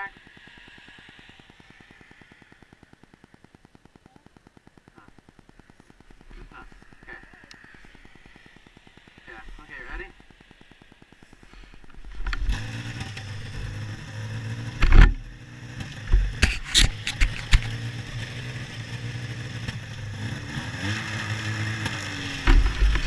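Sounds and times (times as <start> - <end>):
snowmobile engine idling: 0.0 - 23.0.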